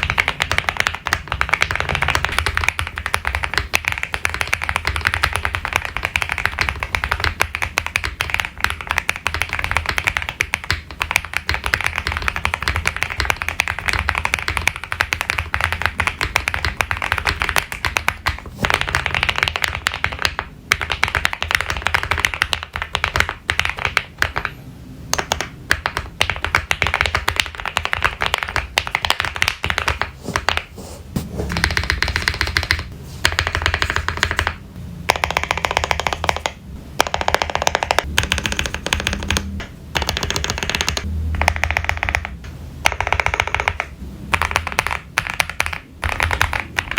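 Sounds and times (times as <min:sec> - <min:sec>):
mechanical keyboard typing: 0:00.0 - 0:30.7, 0:31.4 - 0:46.9.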